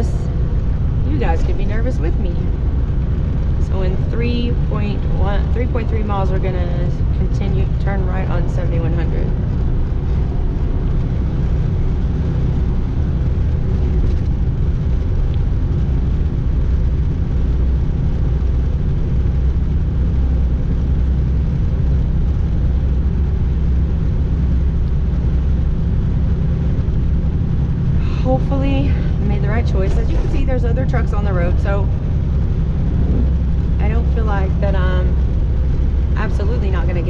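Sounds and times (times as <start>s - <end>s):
truck diesel engine drone: 0.0s - 37.0s
tyre and road noise: 0.0s - 37.0s.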